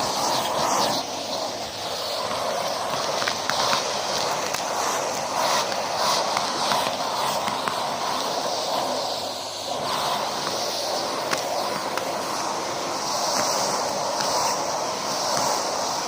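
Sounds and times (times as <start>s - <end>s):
vacuum cleaner rushing: 0.0s - 16.0s.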